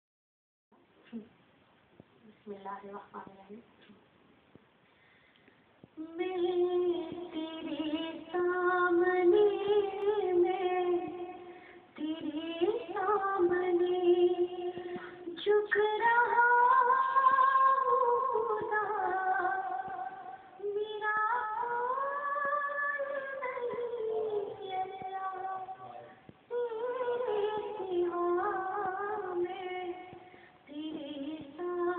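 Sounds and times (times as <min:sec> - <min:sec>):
woman singing through a television: 0:05.9 - 0:31.9.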